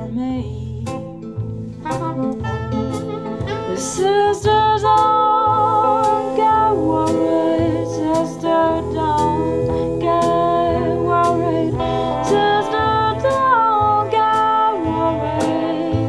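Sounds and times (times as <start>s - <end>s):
jazz music through speakers: 0.0s - 16.0s.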